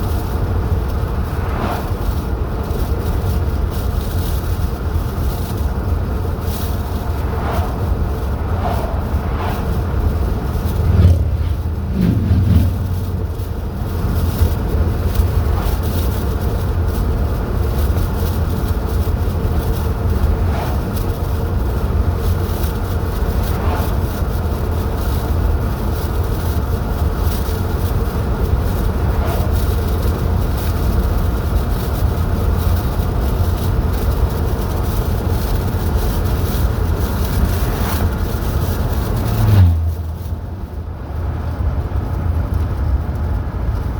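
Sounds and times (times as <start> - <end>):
car engine and tyre rumble: 0.0 - 43.9.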